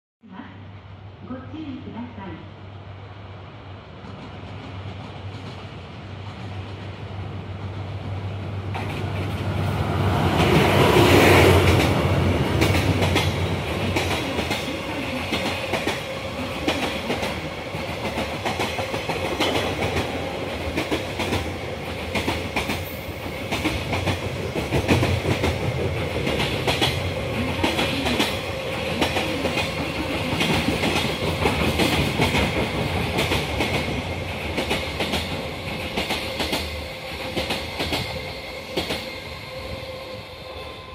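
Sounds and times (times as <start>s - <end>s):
freight train passing: 0.3s - 40.9s.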